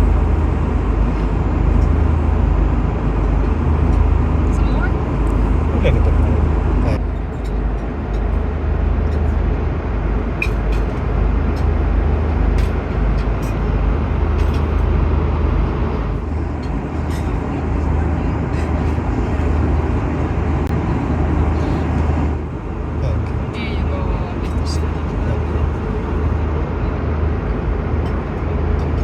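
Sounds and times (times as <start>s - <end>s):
aircraft cabin rumble: 0.0s - 29.0s.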